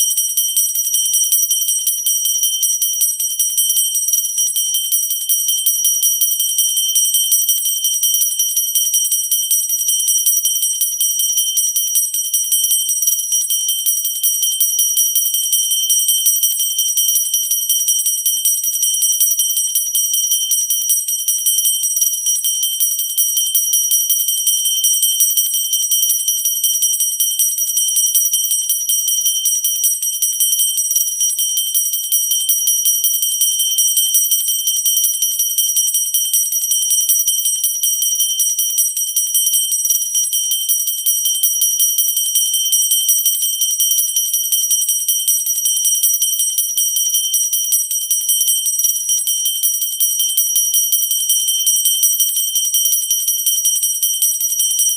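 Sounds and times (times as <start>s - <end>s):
hand bell ringing fast: 0.0s - 54.9s.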